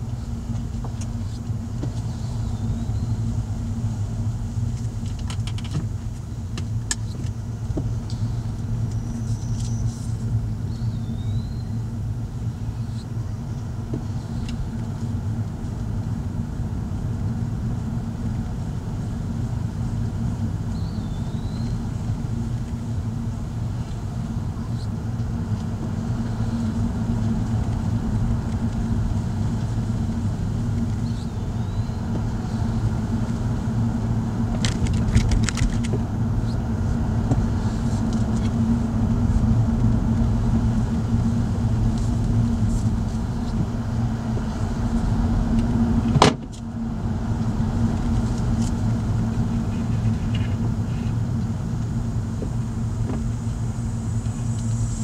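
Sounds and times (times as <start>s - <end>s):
car engine drone: 0.0s - 55.0s
tyres on paved road: 0.0s - 55.0s.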